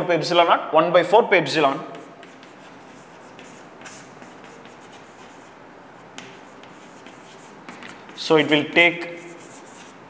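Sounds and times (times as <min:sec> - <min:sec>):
chalk scratching and tapping on chalkboard: 0:01.6 - 0:10.0.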